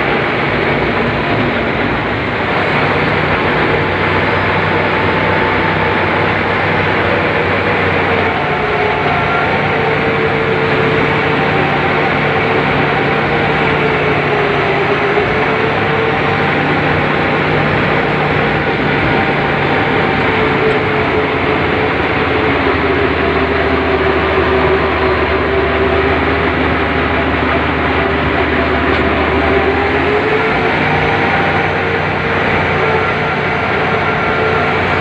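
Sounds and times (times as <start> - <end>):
excavator engine and hydraulics droning: 0.0 - 35.0.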